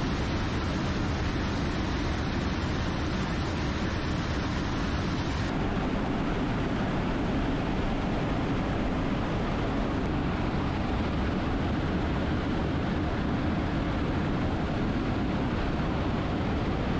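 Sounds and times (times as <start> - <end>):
jet aircraft engine rush: 0.0 - 16.9.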